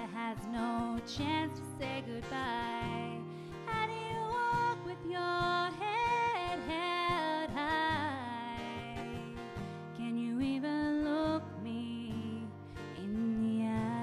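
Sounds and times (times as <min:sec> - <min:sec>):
strummed acoustic guitar: 0:00.0 - 0:14.0
woman singing: 0:00.0 - 0:14.0.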